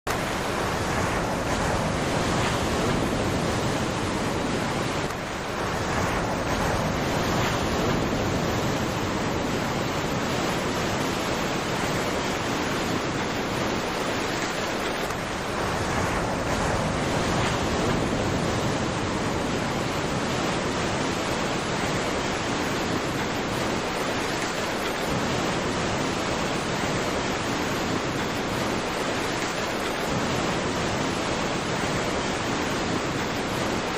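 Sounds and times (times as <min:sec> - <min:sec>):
ocean waves on shore: 0:00.1 - 0:33.9.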